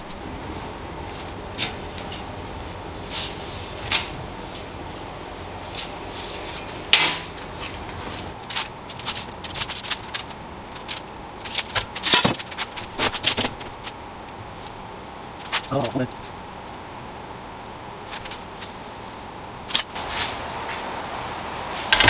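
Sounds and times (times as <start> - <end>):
steady low background hum: 0.0 - 22.0.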